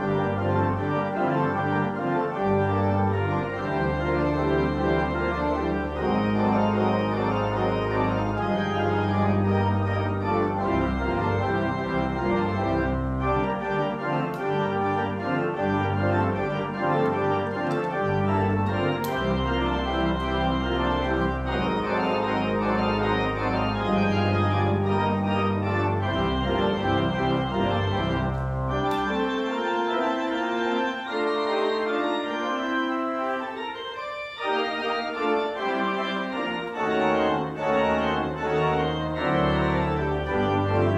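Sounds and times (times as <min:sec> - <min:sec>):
church organ playing: 0:00.0 - 0:40.9.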